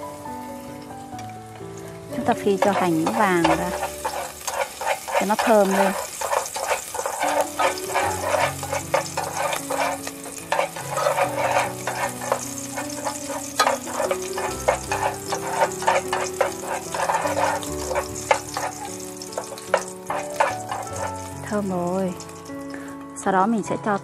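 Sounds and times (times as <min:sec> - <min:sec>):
onion sizzling in oil: 0:00.0 - 0:24.0
soft background music: 0:00.0 - 0:24.0
chopsticks clicking and scraping pot: 0:02.4 - 0:22.6.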